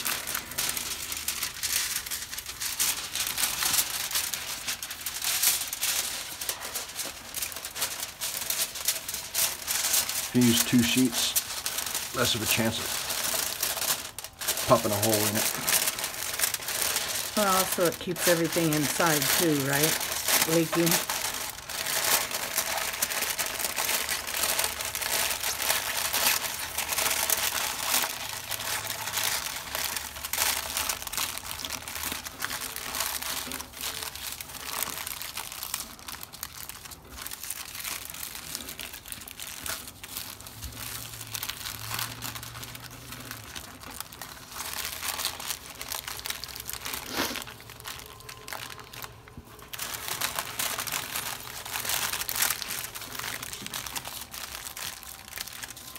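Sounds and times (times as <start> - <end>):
aluminium foil crinkling: 0.0 - 55.9.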